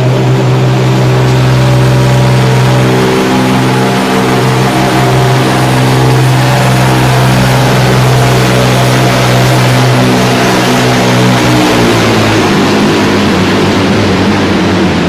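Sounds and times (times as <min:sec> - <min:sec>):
tractor diesel engine running flat out: 0:00.0 - 0:15.0.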